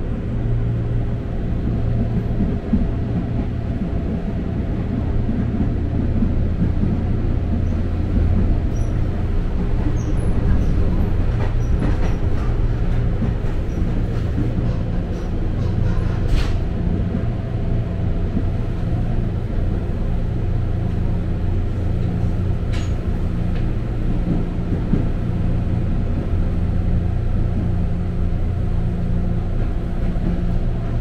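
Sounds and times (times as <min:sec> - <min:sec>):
train rumble with motor hum: 0:00.0 - 0:31.0.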